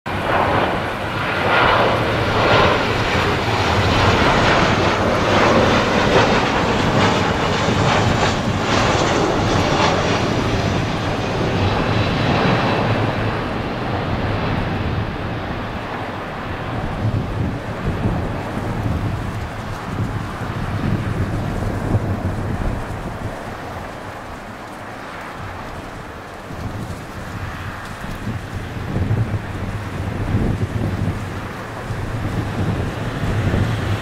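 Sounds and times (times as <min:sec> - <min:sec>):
jet engines roaring on landing: 0:00.1 - 0:34.0.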